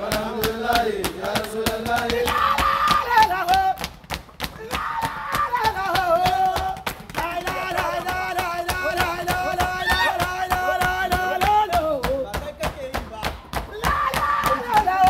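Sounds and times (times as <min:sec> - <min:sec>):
men chanting together: 0:00.0 - 0:03.8, 0:04.6 - 0:15.0
hand clapping: 0:00.0 - 0:15.0.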